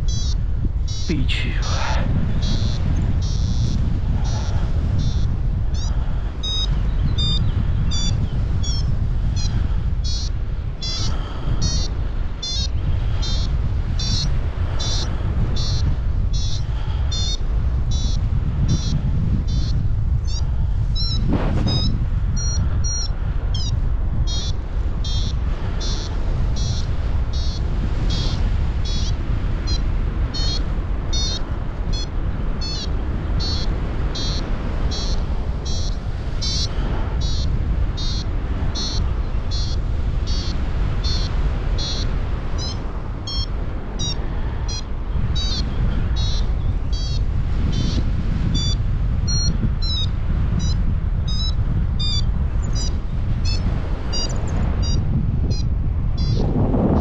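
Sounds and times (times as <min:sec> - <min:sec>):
variometer high beeps: 0:00.0 - 0:01.1, 0:02.4 - 0:03.8, 0:05.0 - 0:15.0, 0:15.6 - 0:15.8, 0:16.4 - 0:20.4, 0:21.0 - 0:23.7, 0:24.3 - 0:29.1, 0:30.4 - 0:57.0
wind buffeting microphone: 0:00.0 - 0:57.0.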